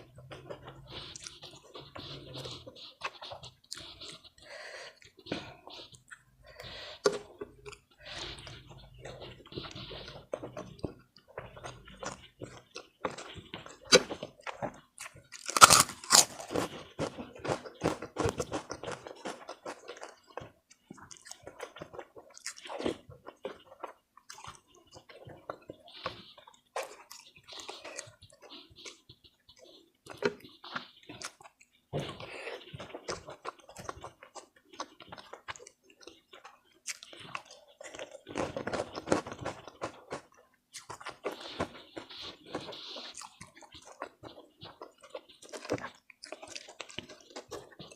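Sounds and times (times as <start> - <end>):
wet crunchy chewing: 0.0 - 47.9.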